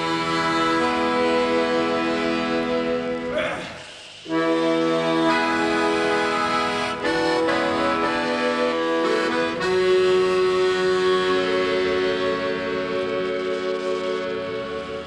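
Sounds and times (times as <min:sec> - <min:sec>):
accordion playing chords: 0:00.0 - 0:15.0.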